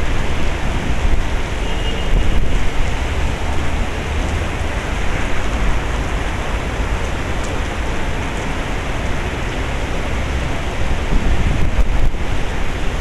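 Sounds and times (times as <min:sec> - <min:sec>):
heavy rain pouring: 0:00.0 - 0:13.0
wind buffeting microphone: 0:00.0 - 0:13.0.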